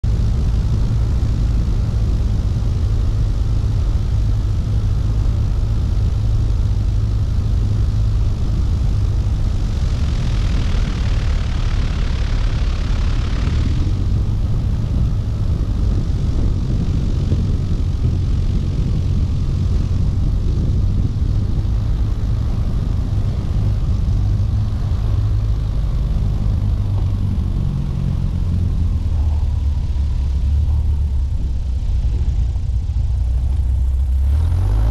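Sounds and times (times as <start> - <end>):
heavy wind rush: 0.0 - 34.9
propeller plane engine droning: 0.0 - 34.9.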